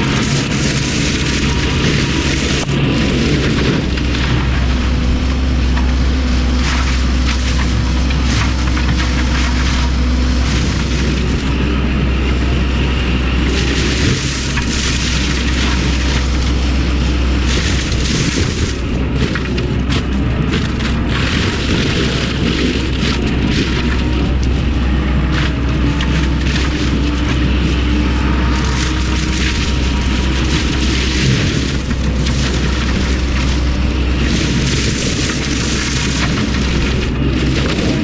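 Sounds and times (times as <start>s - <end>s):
excavator mulcher drone: 0.0s - 38.0s
wood crunching and cracking: 0.0s - 38.0s.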